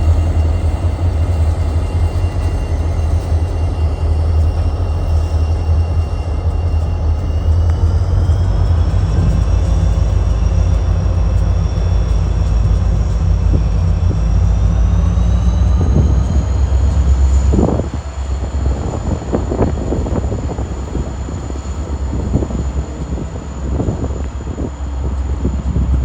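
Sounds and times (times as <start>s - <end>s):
diesel locomotive engine: 0.0s - 26.0s.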